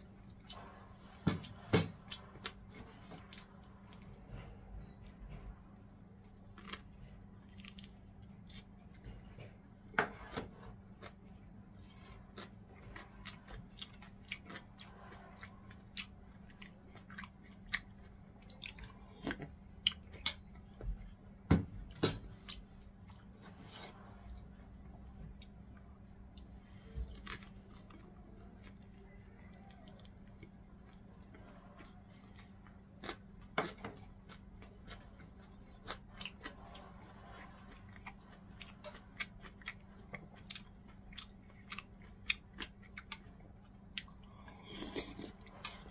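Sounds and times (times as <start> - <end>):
faint steady hum: 0.0 - 45.9
person chewing food: 0.0 - 45.9.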